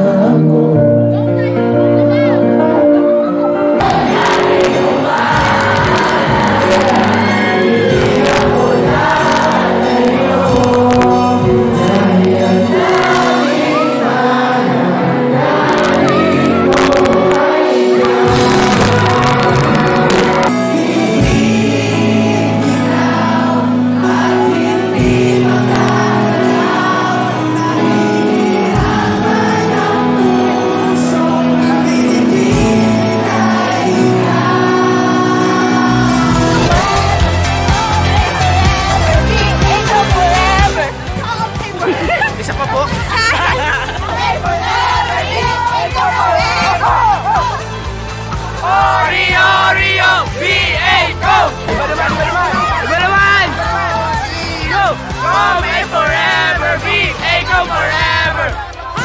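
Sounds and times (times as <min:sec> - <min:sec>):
crowd singing along: 0:00.0 - 0:59.0
live rock band with singer: 0:00.0 - 0:59.0.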